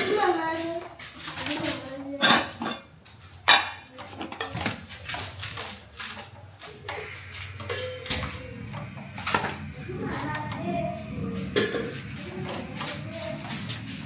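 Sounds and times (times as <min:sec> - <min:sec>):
pots and metal utensils clattering: 0:01.3 - 0:14.0.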